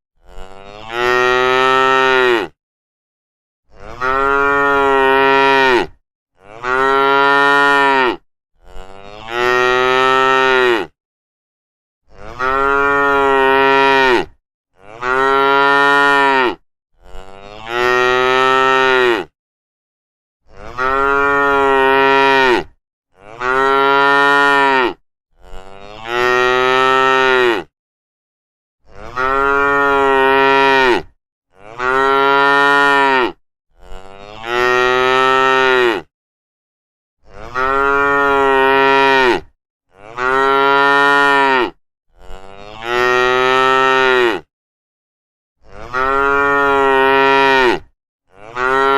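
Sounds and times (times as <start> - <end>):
cow mooing: 0.2 - 2.6, 3.7 - 11.0, 12.1 - 19.3, 20.5 - 27.7, 28.9 - 36.1, 37.3 - 44.5, 45.6 - 48.9.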